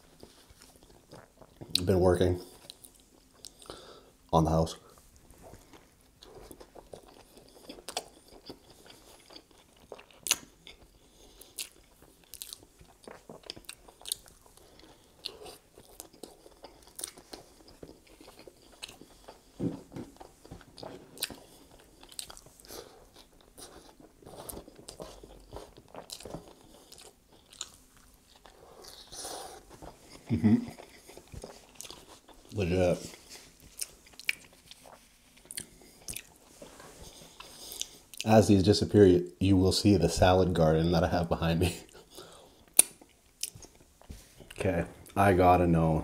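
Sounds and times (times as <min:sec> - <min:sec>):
person chewing food: 0:00.0 - 0:04.2, 0:04.9 - 0:38.3, 0:41.8 - 0:45.2.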